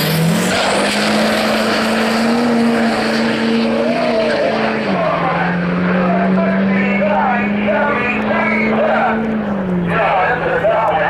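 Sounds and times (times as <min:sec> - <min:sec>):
diesel truck engine revving high: 0:00.0 - 0:11.0
heavy noise: 0:00.0 - 0:11.0.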